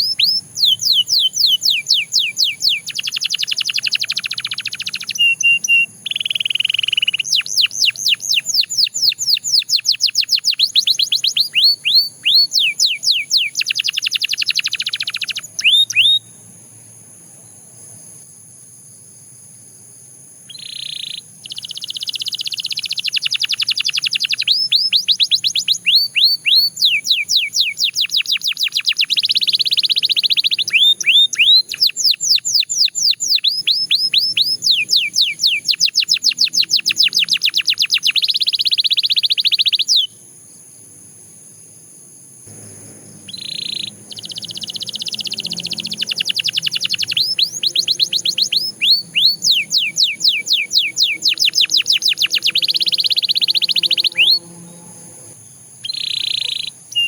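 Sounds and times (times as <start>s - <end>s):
canary singing: 0.0s - 16.5s, 20.5s - 40.2s, 42.5s - 57.0s.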